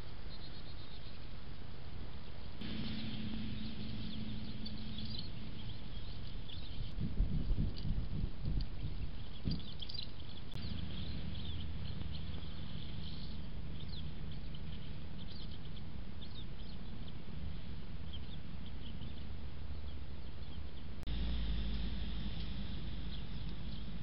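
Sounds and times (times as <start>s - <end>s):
small birds chirping: 0.0s - 1.4s, 2.1s - 24.0s
low microphone rumble: 2.6s - 24.0s.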